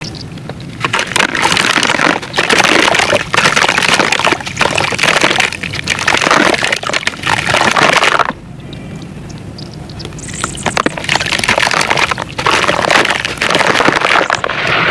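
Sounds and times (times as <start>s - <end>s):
sand-cement crunching: 0.8s - 8.4s, 10.4s - 14.9s.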